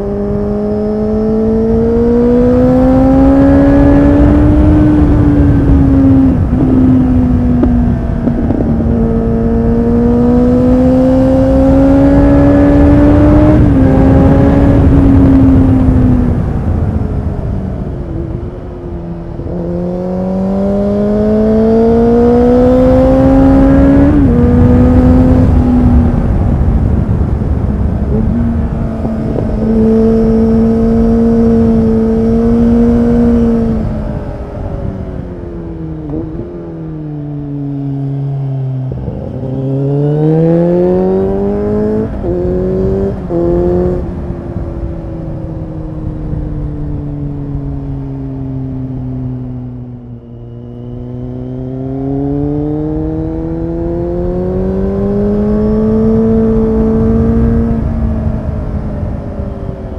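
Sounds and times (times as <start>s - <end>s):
motorcycle engine revving: 0.0s - 17.2s, 19.3s - 59.9s
wind rush: 0.0s - 50.9s, 52.0s - 59.9s.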